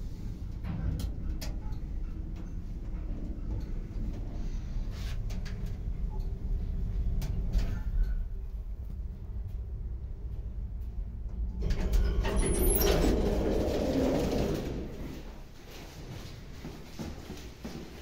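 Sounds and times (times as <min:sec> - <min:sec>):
lift low rumble: 0:00.0 - 0:18.0.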